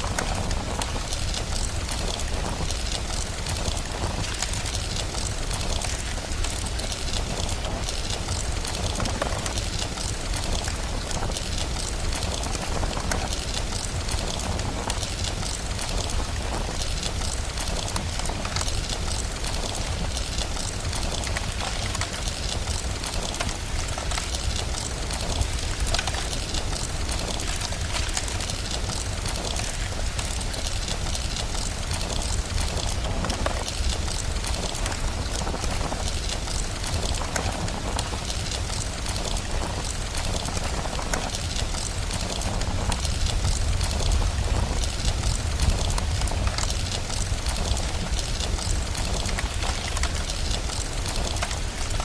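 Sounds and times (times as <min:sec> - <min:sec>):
fireplace crackling and popping: 0:00.0 - 0:52.0
steady rain: 0:00.0 - 0:52.0.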